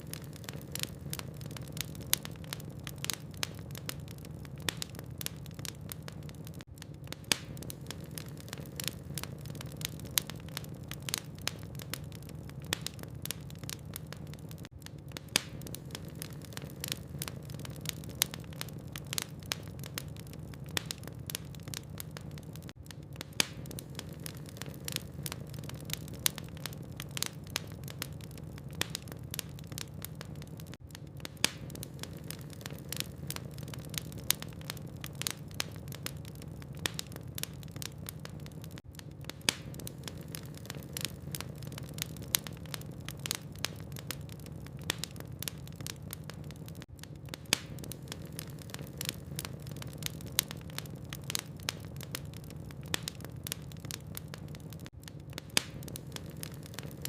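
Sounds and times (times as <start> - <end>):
logs crackling in fireplace: 0.0 - 57.0
low fire rumble: 0.0 - 57.0.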